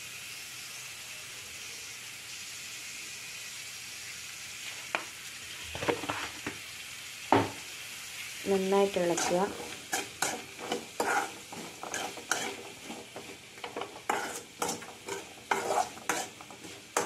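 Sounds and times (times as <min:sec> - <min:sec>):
beans sizzling in oil: 0:00.0 - 0:17.0.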